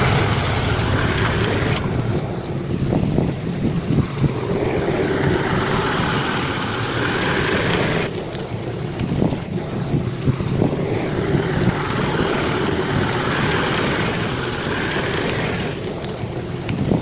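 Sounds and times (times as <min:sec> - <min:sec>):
bulldozer diesel engine running: 0:00.0 - 0:16.6.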